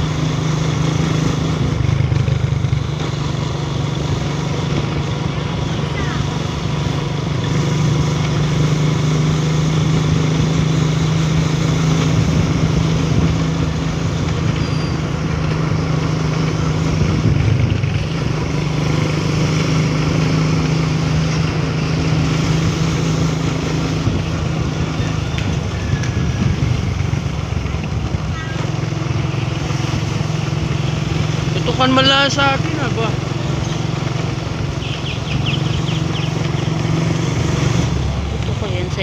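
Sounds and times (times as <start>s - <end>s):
road and wind noise: 0.0s - 39.0s
vehicle engine humming: 0.0s - 39.0s.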